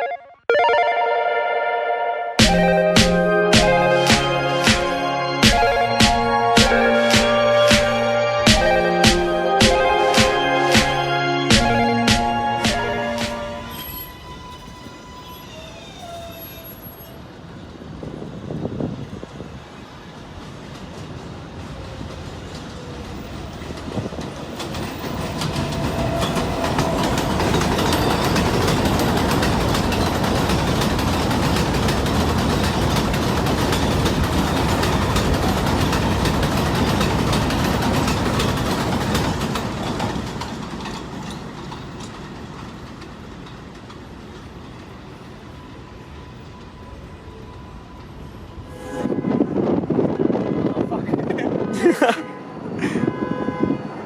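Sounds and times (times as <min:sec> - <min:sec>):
subway train wheels clattering: 0:02.4 - 0:54.0.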